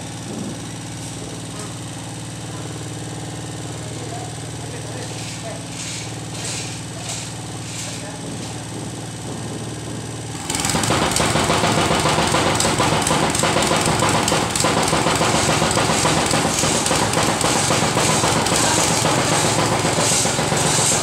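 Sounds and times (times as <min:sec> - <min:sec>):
tamping rammer pounding pipe: 0:00.0 - 0:21.0.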